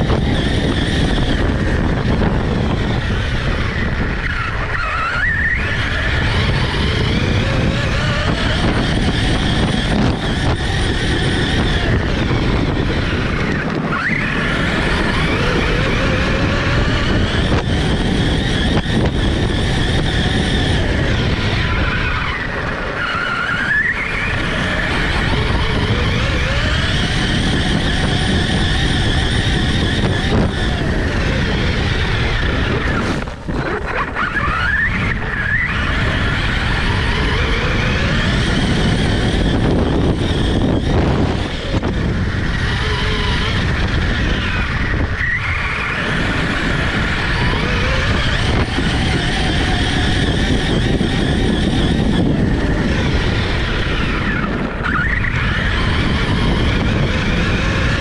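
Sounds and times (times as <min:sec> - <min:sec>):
electric motor whining: 0:00.0 - 0:58.0
rumble of tyres on grass: 0:00.0 - 0:58.0.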